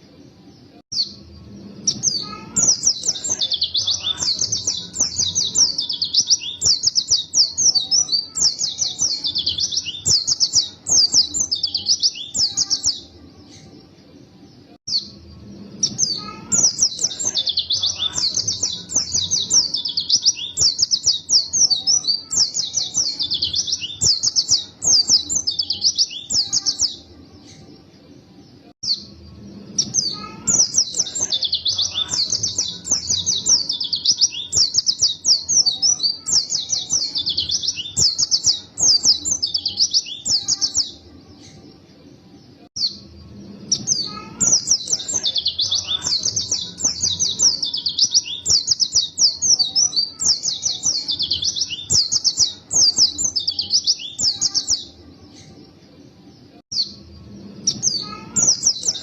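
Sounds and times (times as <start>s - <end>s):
bird singing high-pitched phrases: 0.0s - 59.0s.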